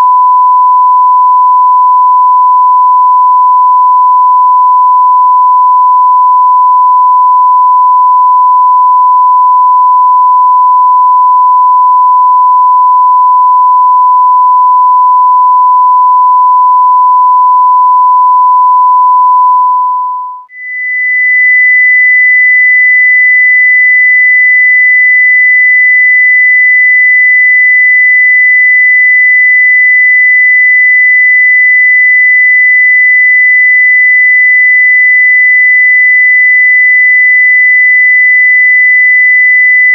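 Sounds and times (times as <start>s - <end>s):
higher sine test tone: 0.0s - 39.9s
sine test tone: 0.0s - 39.9s.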